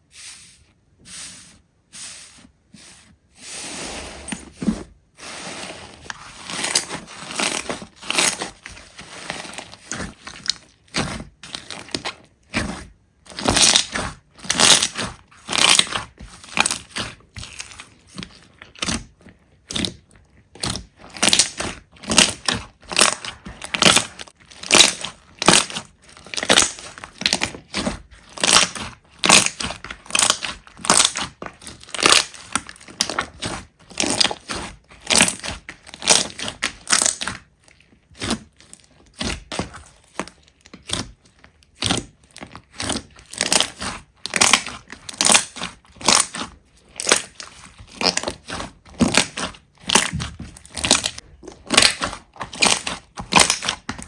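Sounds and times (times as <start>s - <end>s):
slime crunching and crackling: 4.6s - 54.0s.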